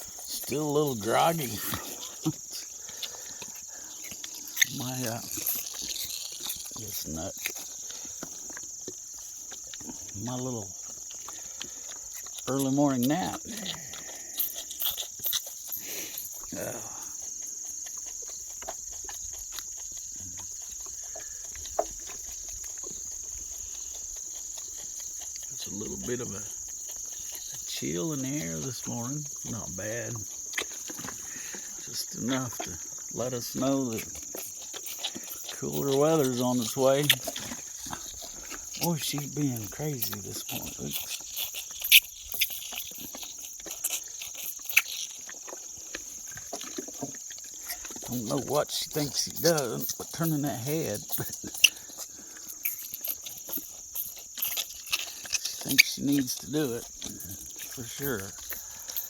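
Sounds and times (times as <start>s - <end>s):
calf slapping and slurping: 0.0s - 59.0s
crickets chirring: 0.0s - 59.0s.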